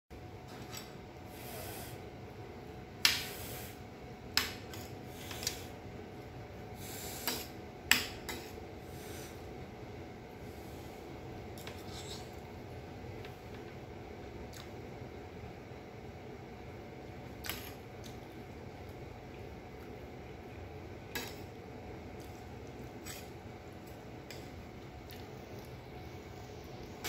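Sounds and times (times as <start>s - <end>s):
faint hum: 0.1s - 27.0s.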